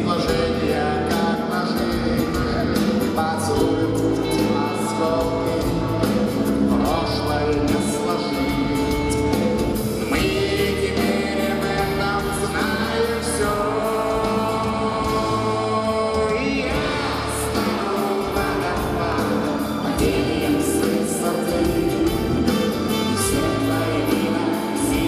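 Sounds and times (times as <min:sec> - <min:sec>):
live band playing: 0:00.0 - 0:25.0
person singing through pa: 0:00.0 - 0:25.0.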